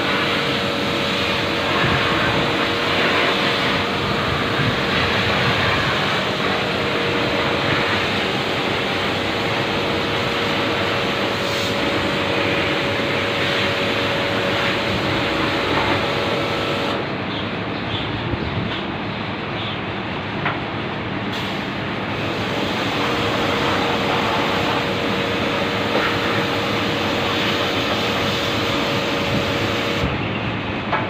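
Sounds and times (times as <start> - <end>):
pressure washer jet hissing: 0.0 - 17.0, 21.3 - 30.1
steady hum: 0.0 - 31.0.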